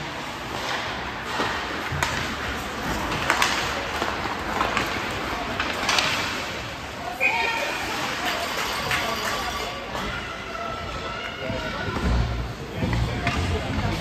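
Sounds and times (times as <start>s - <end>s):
hockey sticks and puck clacking: 0.0s - 14.0s
noisy rink background: 0.0s - 14.0s.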